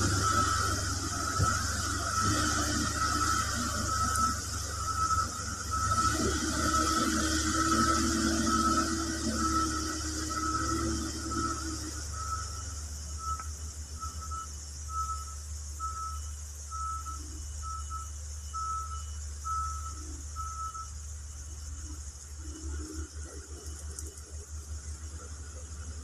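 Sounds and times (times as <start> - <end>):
diesel engine drone: 0.0 - 26.0
reversing alarm beeping: 0.0 - 26.0.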